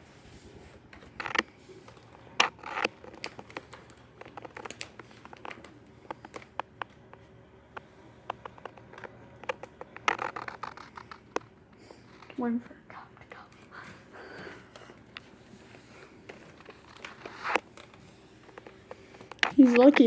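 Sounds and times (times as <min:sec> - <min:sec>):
light clicks and scratching: 0:00.4 - 0:20.0.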